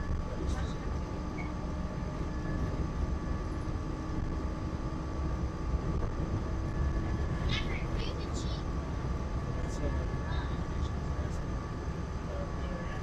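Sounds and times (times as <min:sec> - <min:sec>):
monorail train low rumble: 0:00.0 - 0:13.0
steady high hum: 0:00.0 - 0:13.0.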